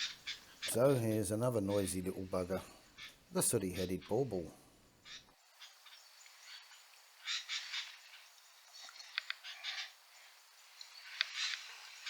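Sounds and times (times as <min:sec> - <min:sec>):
bulbuls calling: 0:00.0 - 0:12.0.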